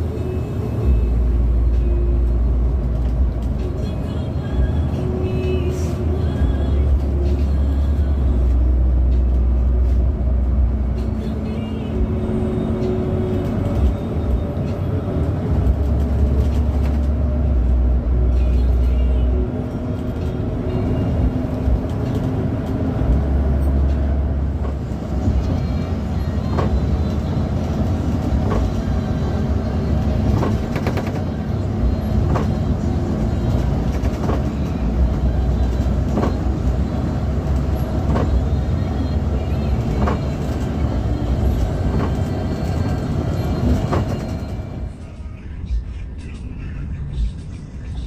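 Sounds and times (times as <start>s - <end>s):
bus engine and road noise: 0.0s - 48.0s.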